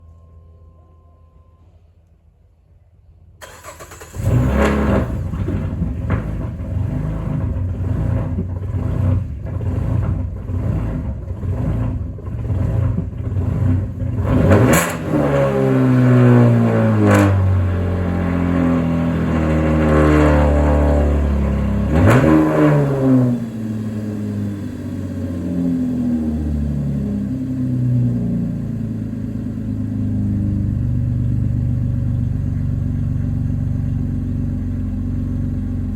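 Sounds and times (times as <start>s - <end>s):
car engine revving and idling: 3.4s - 35.9s.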